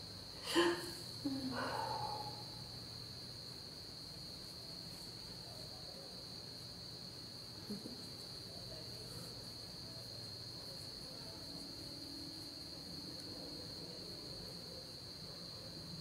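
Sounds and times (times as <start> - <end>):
crickets trilling: 0.0 - 16.0
faint low hum: 0.0 - 16.0.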